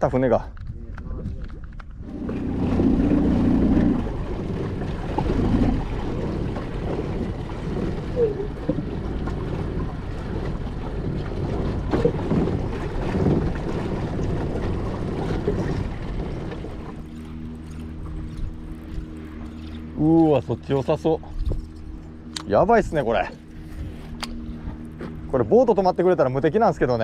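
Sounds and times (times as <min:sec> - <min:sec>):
low rumble: 0:00.0 - 0:27.0
water slapping boat hull: 0:00.0 - 0:27.0
wind buffeting microphone: 0:00.0 - 0:27.0.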